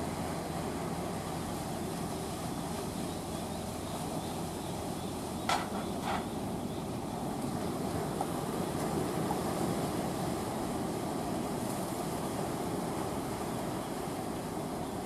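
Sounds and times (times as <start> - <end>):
sea waves: 0.0 - 15.0
wind: 0.0 - 15.0.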